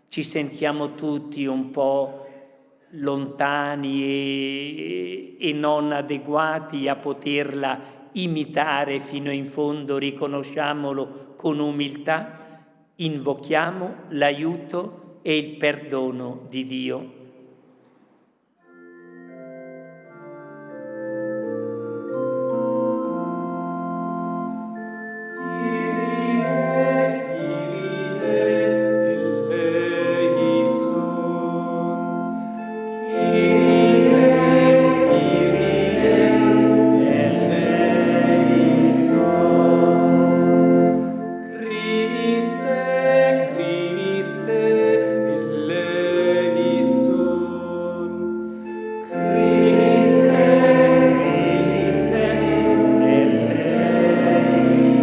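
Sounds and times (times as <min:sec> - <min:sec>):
church organ playing chords: 0:00.0 - 0:02.4, 0:03.0 - 0:11.3, 0:18.6 - 0:55.0.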